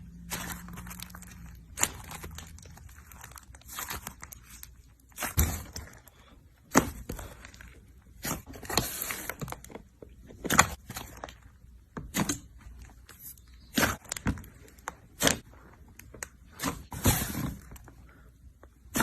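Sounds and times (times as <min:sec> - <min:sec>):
slime squishing: 0:00.0 - 0:19.0.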